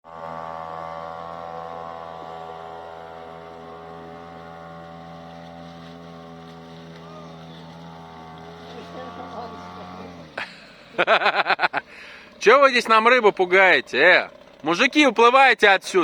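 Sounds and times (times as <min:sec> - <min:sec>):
outboard motor buzzing drone: 0:00.0 - 0:16.0.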